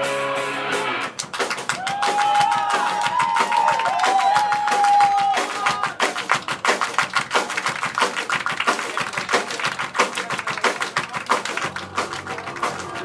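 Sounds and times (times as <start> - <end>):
crowd clapping along: 1.0 - 13.0.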